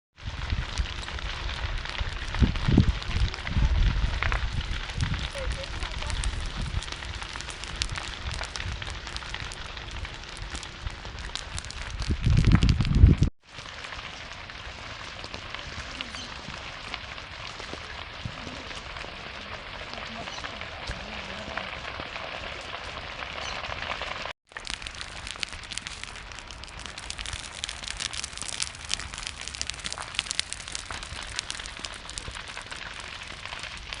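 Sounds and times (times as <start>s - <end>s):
fire hissing and crackling: 0.2s - 34.0s.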